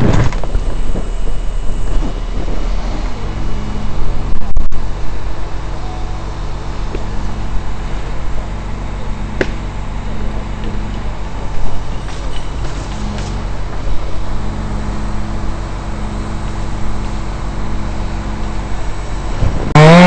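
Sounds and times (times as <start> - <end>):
wind buffeting microphone: 0.0 - 19.8
engine idling: 0.0 - 20.0.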